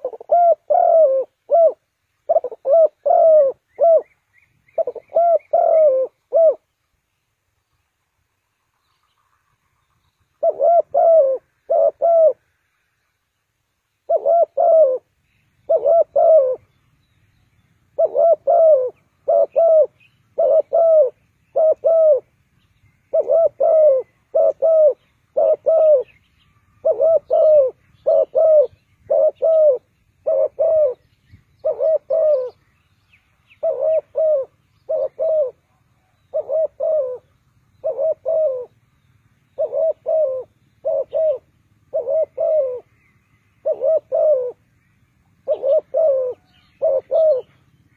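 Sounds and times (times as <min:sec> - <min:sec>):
dove cooing: 0:00.0 - 0:06.8, 0:10.3 - 0:12.6, 0:14.0 - 0:16.9, 0:17.8 - 0:47.9.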